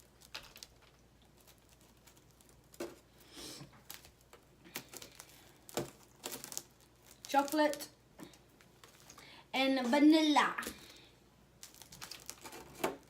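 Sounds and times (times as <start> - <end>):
wafer package rustling: 0.0 - 9.3, 9.9 - 13.0.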